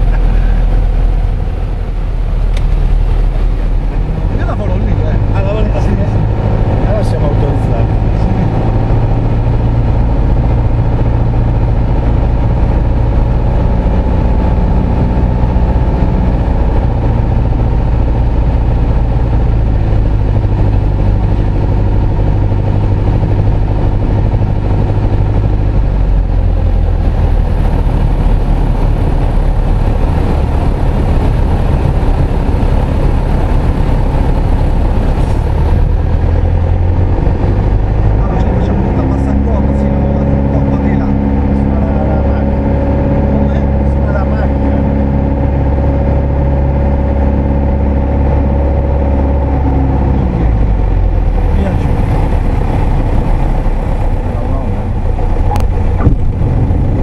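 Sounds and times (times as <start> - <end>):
propeller aircraft engine in cabin: 0.0 - 57.0.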